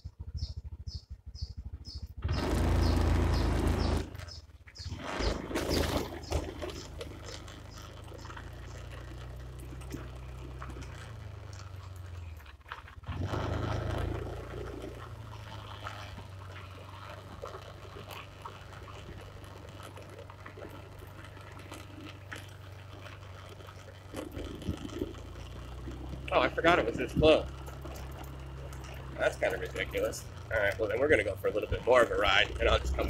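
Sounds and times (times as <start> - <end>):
motorbike engine running: 0.0 - 33.0
road and wind rumble: 0.0 - 33.0.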